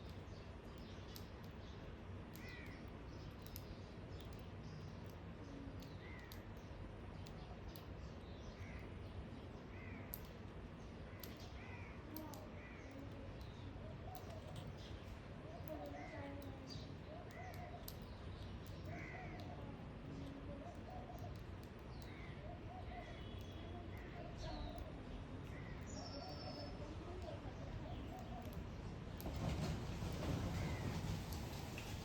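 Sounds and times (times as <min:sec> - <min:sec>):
birds calling faintly: 0:00.0 - 0:32.0.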